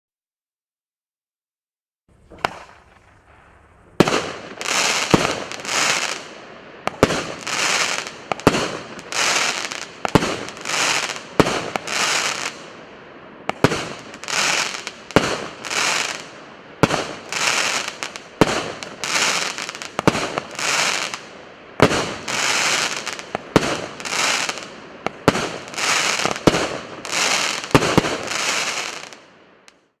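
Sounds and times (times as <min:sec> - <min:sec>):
firework bangs: 0:02.1 - 0:12.7, 0:13.4 - 0:29.3
crackling firework hiss: 0:02.1 - 0:30.0.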